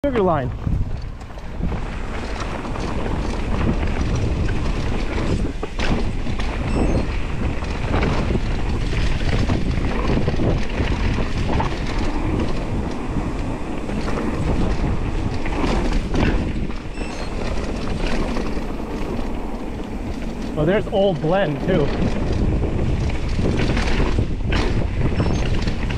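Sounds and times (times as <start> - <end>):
bike knocks and rattles: 0.0 - 25.9
wind buffeting microphone: 0.0 - 25.9.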